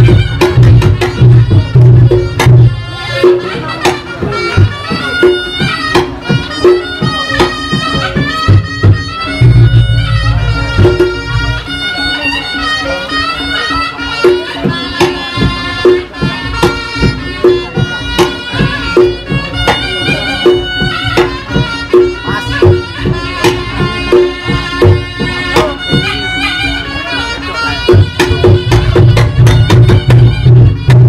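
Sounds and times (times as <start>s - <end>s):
hand drums: 0.0s - 31.0s
shawm playing a reedy melody: 0.0s - 31.0s.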